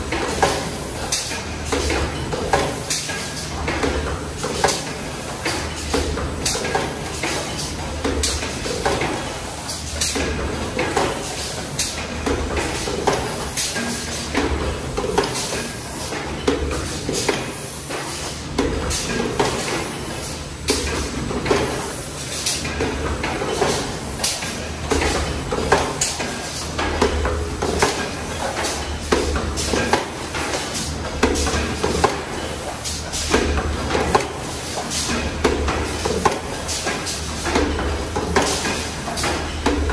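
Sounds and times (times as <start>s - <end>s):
mechanical knocks and clanks: 0.0s - 39.9s.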